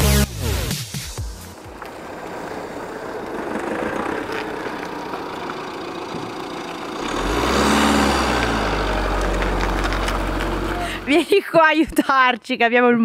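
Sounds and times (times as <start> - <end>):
car engine hum: 0.0 - 11.8
tyre noise: 0.0 - 12.0.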